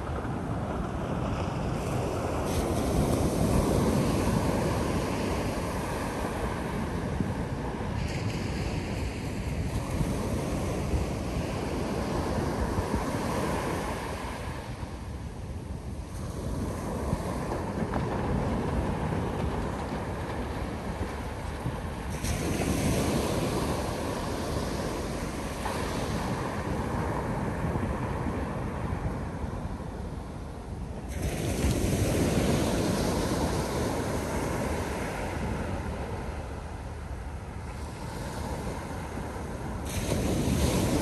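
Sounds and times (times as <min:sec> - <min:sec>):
waves breaking: 0:00.0 - 0:41.0
wind buffeting microphone: 0:00.0 - 0:41.0.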